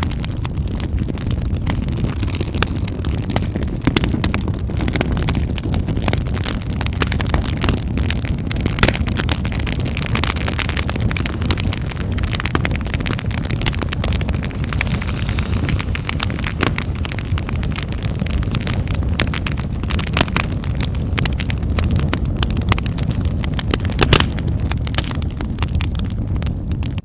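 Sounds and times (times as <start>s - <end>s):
low rumble of flames: 0.0s - 27.0s
sharp snaps and pops: 0.0s - 27.0s
wood fire crackling: 0.0s - 27.0s.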